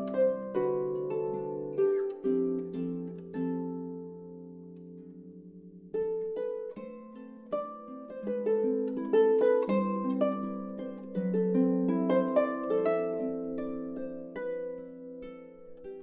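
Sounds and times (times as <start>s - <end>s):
plucked instrumental music: 0.0s - 16.0s.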